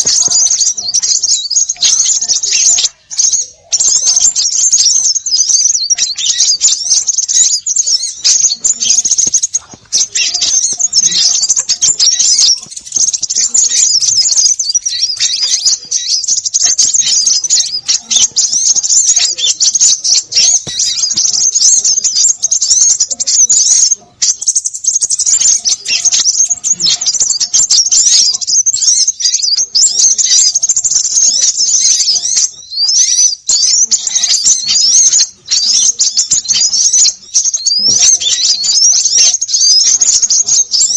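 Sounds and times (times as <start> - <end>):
small birds chattering and twittering: 0.0 - 40.9.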